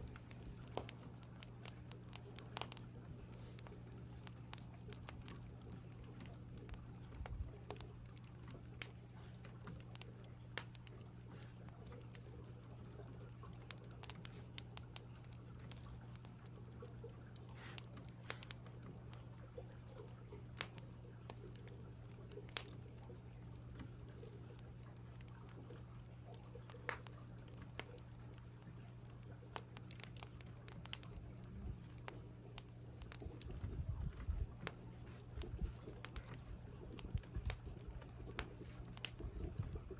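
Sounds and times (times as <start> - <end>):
firewood crackling: 0.0 - 39.9
steady low hum: 0.0 - 39.9.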